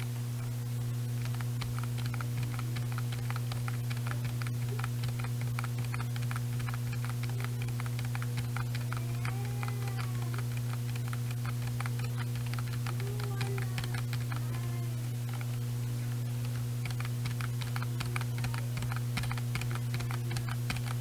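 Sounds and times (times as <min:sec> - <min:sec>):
low electrical hum: 0:00.0 - 0:21.0
keyboard typing clicks: 0:01.2 - 0:21.0.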